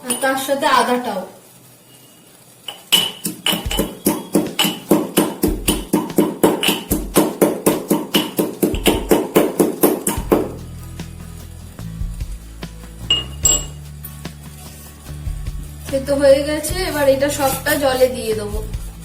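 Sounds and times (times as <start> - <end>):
spices being pounded: 2.7 - 19.0.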